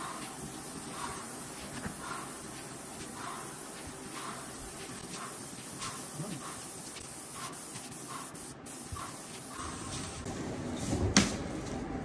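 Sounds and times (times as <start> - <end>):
paint sprayer hissing: 0.0 - 10.3.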